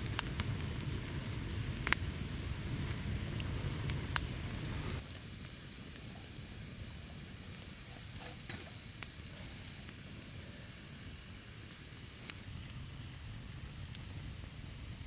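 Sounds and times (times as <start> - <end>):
campfire hissing and sizzling: 0.0 - 15.0
fire crackles: 0.0 - 15.0.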